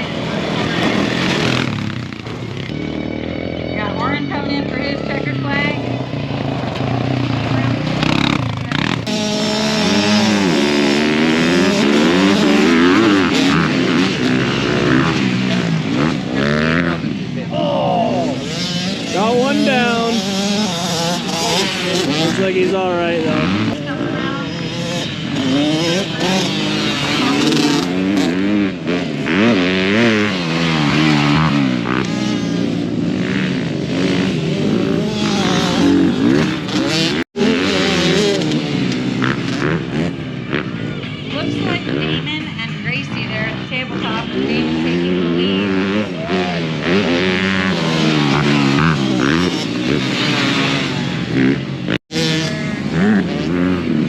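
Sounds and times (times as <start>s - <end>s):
racing engines revving: 0.0s - 54.0s.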